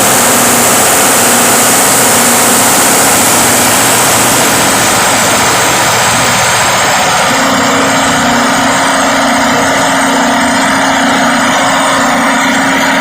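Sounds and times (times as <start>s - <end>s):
diesel engine running: 0.0s - 13.0s
low drone: 0.0s - 13.0s.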